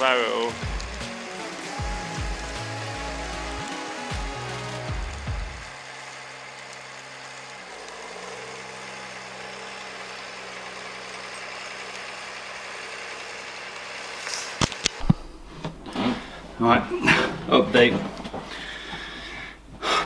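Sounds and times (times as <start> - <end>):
vehicle engine running: 0.0 - 17.1.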